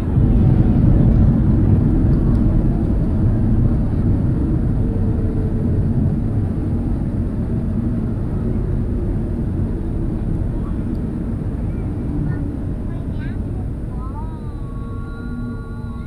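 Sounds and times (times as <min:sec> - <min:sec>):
airplane cabin low rumble: 0:00.0 - 0:16.0.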